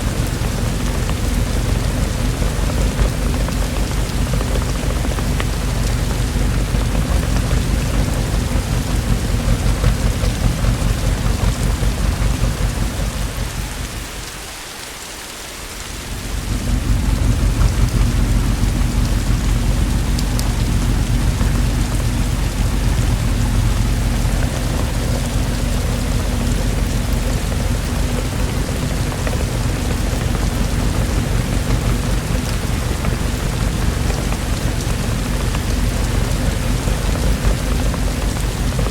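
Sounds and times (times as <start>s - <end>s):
thunder rumbling: 0.0s - 14.6s, 15.7s - 38.9s
heavy rain: 0.0s - 38.9s.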